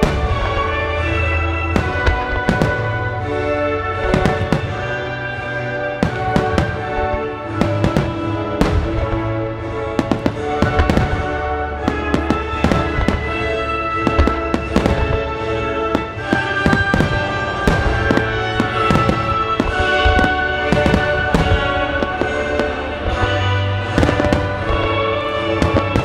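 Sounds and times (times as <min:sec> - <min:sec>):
fireworks bursting: 0:00.0 - 0:26.0
music playing: 0:00.0 - 0:26.0.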